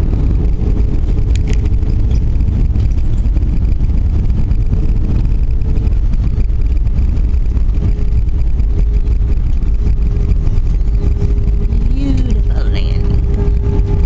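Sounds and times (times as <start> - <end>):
faint steady hum: 0.0 - 14.0
jet engines rumbling: 0.0 - 14.0.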